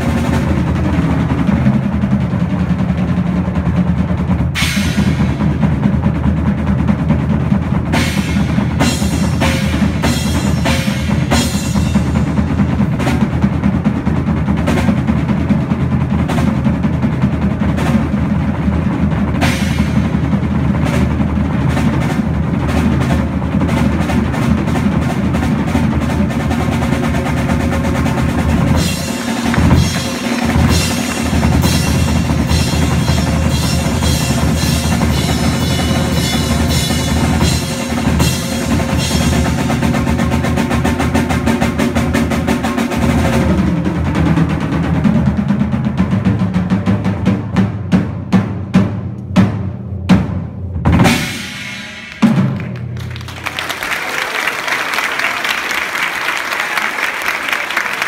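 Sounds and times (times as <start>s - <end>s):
drum kit solo: 0.0s - 53.7s.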